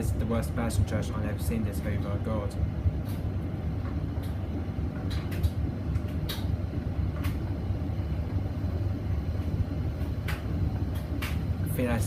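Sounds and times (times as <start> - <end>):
washing machine drum humming: 0.0 - 12.0.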